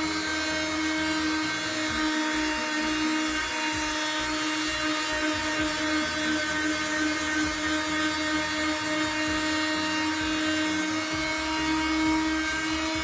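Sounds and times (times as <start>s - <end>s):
oscillating multi-tool buzzing: 0.0s - 13.0s.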